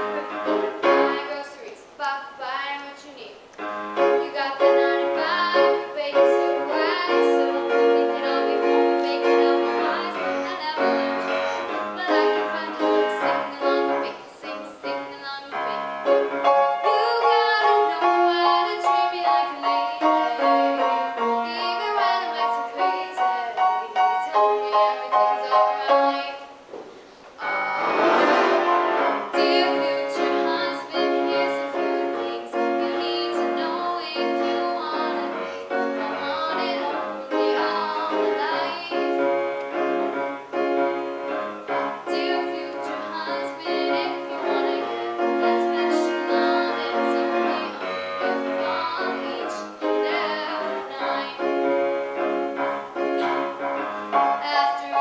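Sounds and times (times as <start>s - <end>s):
piano backing music: 0.0s - 1.7s, 3.5s - 26.7s, 27.3s - 55.0s
girl singing: 0.0s - 26.6s, 29.2s - 55.0s.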